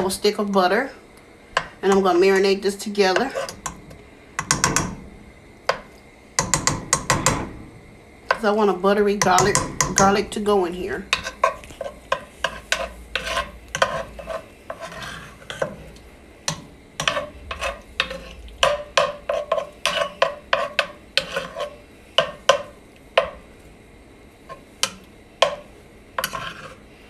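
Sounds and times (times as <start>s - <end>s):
spoon scraping and knocking pan: 1.6s - 5.0s, 5.7s - 7.6s, 9.2s - 23.4s, 24.4s - 26.9s.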